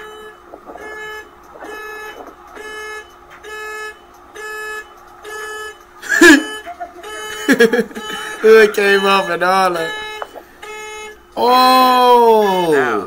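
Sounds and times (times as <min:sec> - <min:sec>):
car alarm horn honking: 0:00.0 - 0:13.0.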